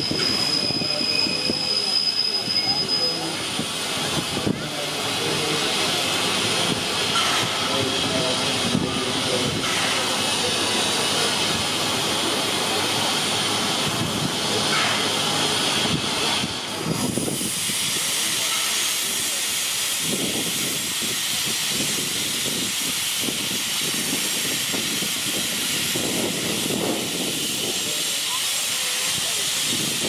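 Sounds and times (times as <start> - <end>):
steam hissing from locomotive: 0.0 - 30.0.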